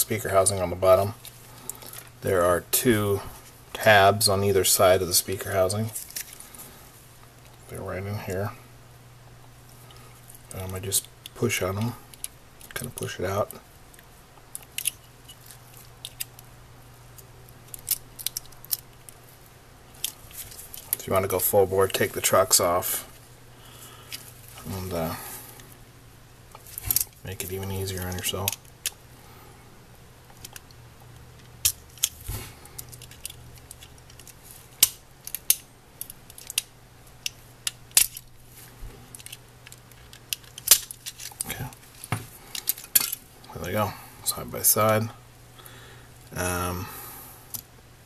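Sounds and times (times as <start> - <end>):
faint steady low hum: 0.0 - 48.0.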